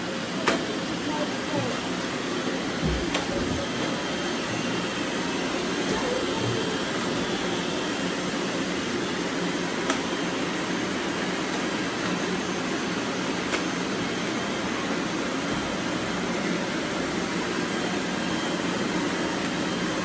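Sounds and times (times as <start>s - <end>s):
robot vacuums whirring: 0.3s - 20.0s.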